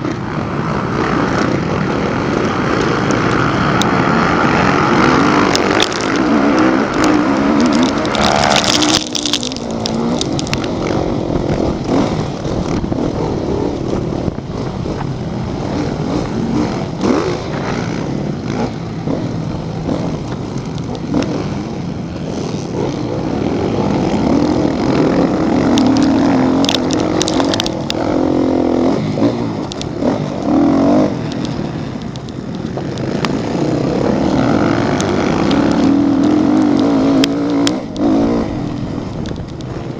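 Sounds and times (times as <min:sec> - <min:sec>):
motocross engines revving: 0:00.0 - 0:39.9.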